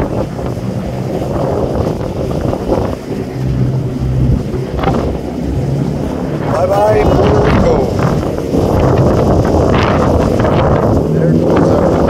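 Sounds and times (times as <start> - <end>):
boat engine hum: 0.0 - 12.0
wake water rushing: 0.0 - 12.0
wind buffeting microphone: 0.0 - 12.0.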